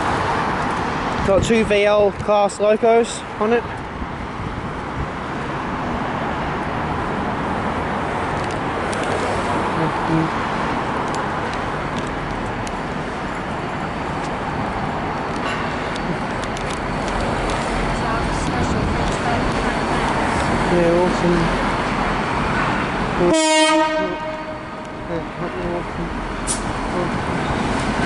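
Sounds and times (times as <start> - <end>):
freight train passing: 3.0 - 28.0.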